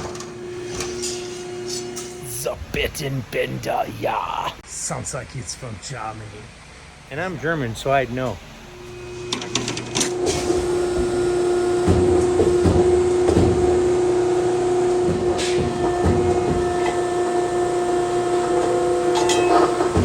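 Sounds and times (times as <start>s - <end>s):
machine hum: 0.0s - 4.6s, 6.7s - 20.0s.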